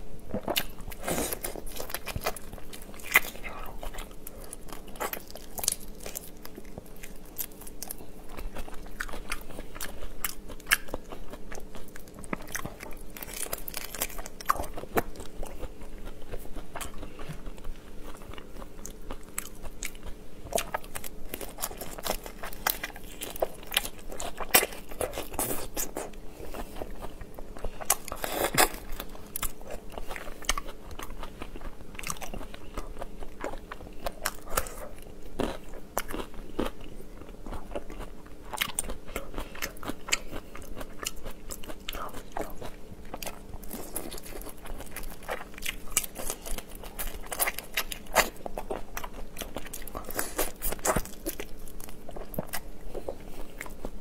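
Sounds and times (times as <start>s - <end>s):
faint steady hum: 0.0s - 54.0s
wet chewing and crunching: 0.3s - 54.0s.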